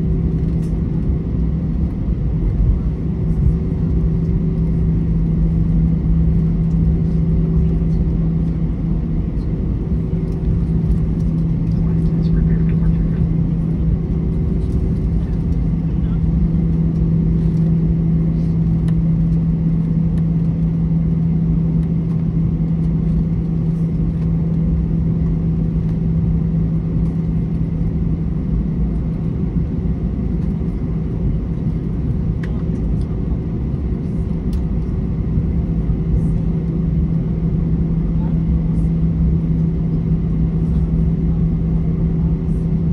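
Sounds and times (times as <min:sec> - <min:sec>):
airliner cabin hum: 0:00.0 - 0:42.9.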